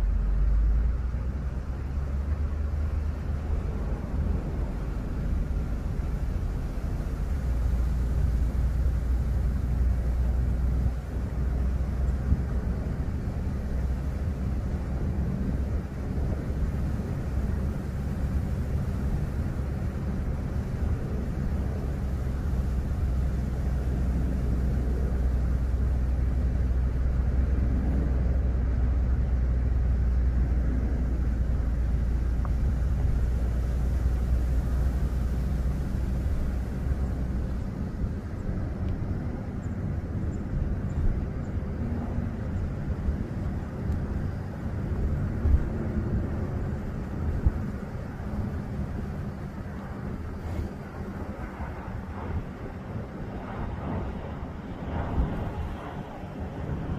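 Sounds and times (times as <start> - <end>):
car road and engine rumble: 0.0 - 56.9.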